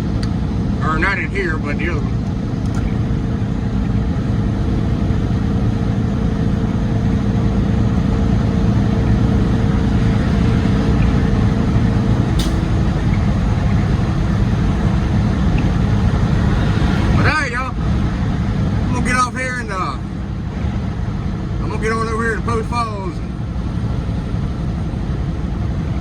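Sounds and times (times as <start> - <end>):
truck engine drone: 0.0 - 26.0.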